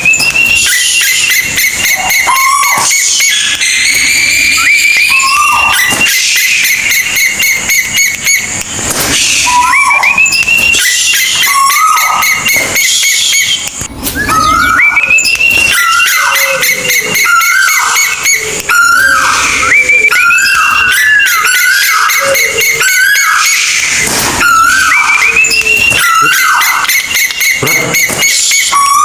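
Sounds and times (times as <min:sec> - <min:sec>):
bird whistled calls: 0:00.0 - 0:29.0.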